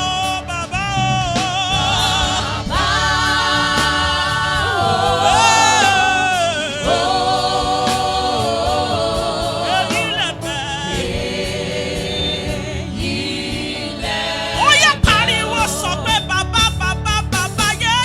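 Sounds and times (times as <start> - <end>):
group singing gospel chorus: 0.0 - 17.9.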